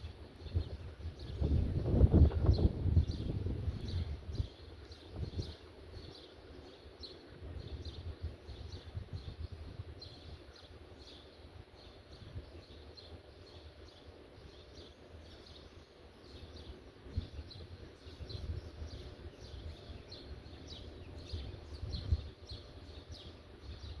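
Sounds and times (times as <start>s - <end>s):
small bird chirping: 0.4s - 24.0s.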